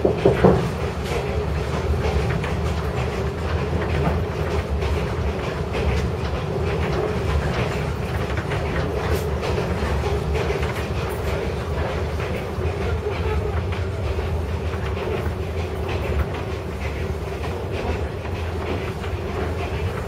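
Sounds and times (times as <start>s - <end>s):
train rumbling on rails: 0.0s - 20.0s
wheels and carriage rattling: 0.0s - 20.0s.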